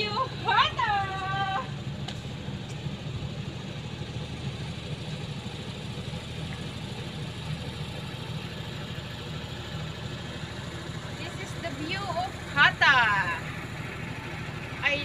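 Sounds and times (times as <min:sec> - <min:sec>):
generator engine hum: 0:00.0 - 0:15.0.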